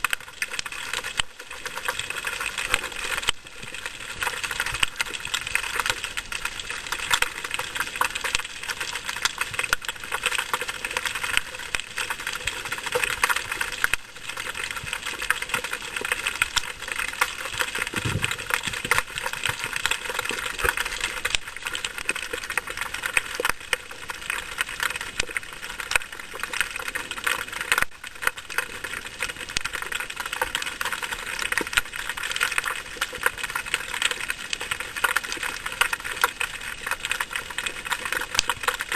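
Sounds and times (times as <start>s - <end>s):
underwater crackling: 0.0s - 38.9s.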